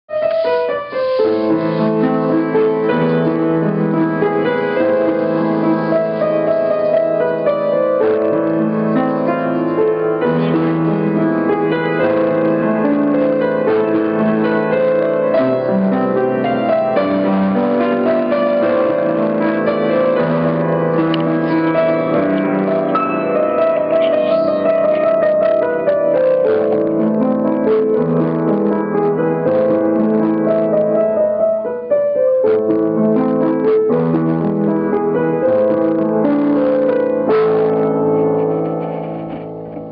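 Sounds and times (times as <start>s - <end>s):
piano playing: 0.1s - 39.9s.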